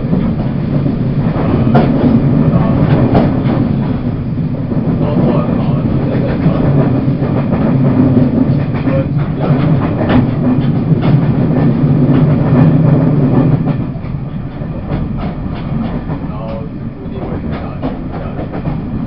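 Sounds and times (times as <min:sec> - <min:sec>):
train interior drone: 0:00.0 - 0:19.0
wheels clicking on track: 0:00.0 - 0:19.0.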